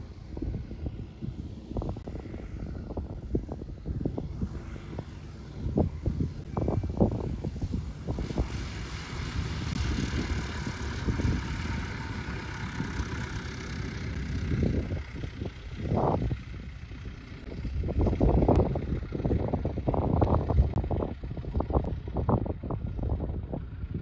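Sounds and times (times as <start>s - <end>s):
propeller plane engine hum: 0.0s - 24.0s
wind buffeting microphone: 0.0s - 24.0s.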